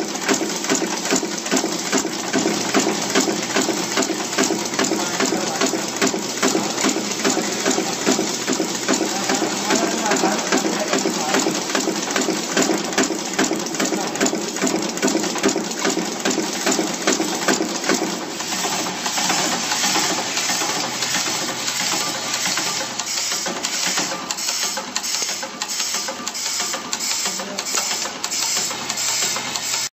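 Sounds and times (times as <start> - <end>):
rapid mechanical clicks: 0.0 - 29.9
steady machine hum: 0.0 - 29.9.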